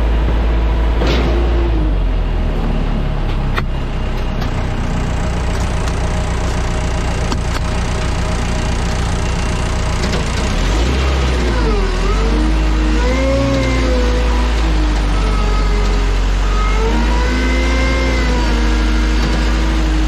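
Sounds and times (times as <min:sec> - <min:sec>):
machinery deep hum: 0:00.0 - 0:20.0.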